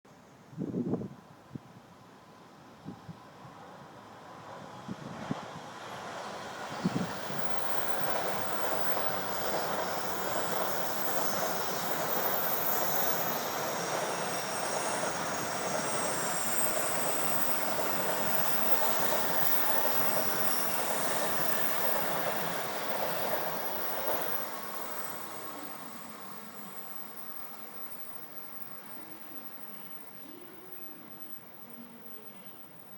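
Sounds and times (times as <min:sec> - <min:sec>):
wheels rushing on rail: 0:00.6 - 0:32.9
train passing: 0:02.2 - 0:32.9
faint high whines: 0:06.4 - 0:32.9.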